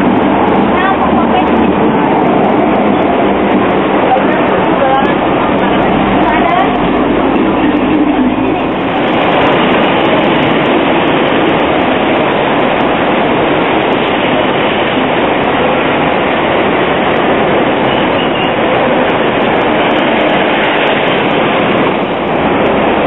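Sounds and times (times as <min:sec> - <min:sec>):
tram running on track: 0:00.0 - 0:23.0.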